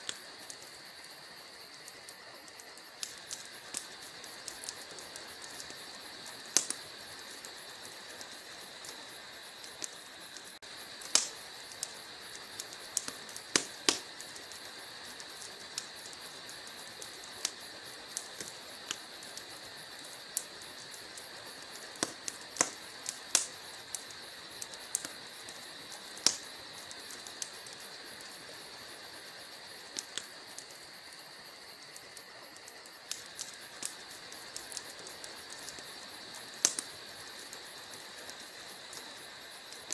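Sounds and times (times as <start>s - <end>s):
fire hissing: 0.0s - 39.9s
log fire crackling and popping: 0.0s - 39.9s.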